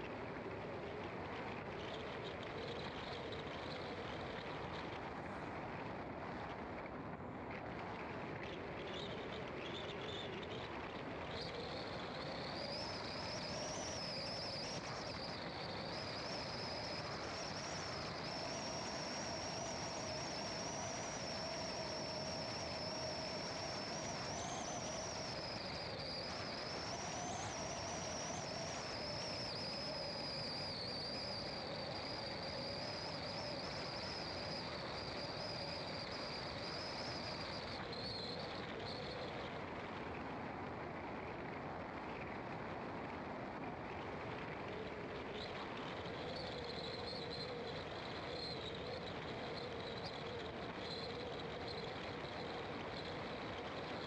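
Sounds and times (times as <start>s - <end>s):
high wavering whine: 0.0s - 54.0s
car tyre and engine noise: 0.2s - 54.0s.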